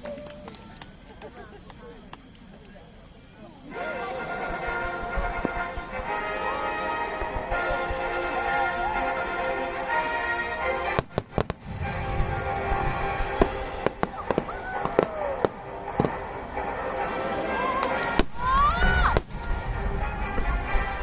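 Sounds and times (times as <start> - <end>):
fireworks bursting: 3.7 - 21.0
music playing: 3.7 - 21.0.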